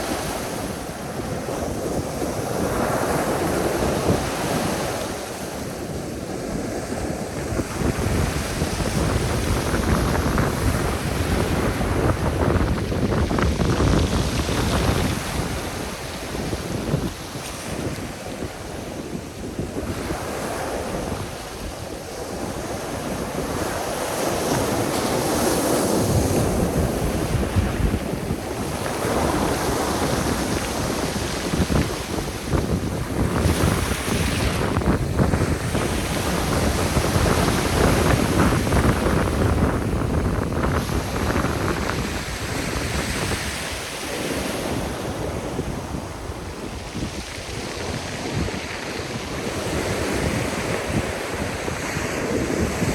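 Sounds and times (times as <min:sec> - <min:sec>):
waves breaking on shore: 0:00.0 - 0:52.9
wind buffeting microphone: 0:00.0 - 0:52.9.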